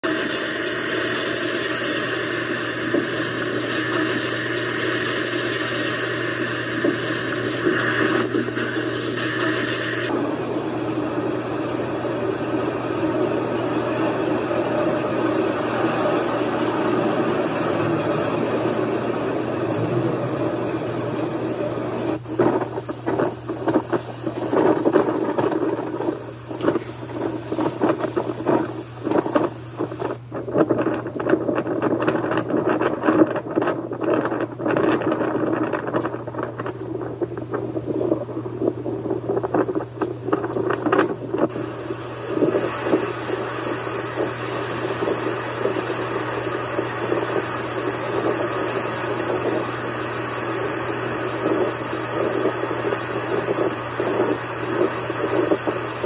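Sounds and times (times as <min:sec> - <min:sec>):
hurricane wind rushing: 0:00.0 - 0:56.0
low steady hum: 0:00.2 - 0:56.0.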